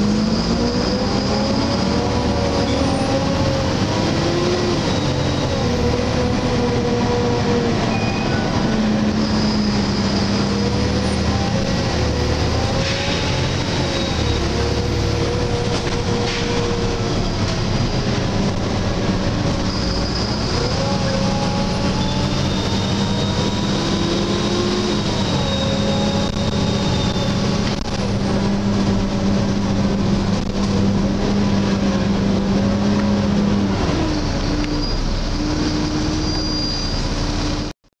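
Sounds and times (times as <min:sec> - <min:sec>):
road noise: 0:00.0 - 0:37.8
bus engine and drivetrain whine: 0:00.0 - 0:37.9.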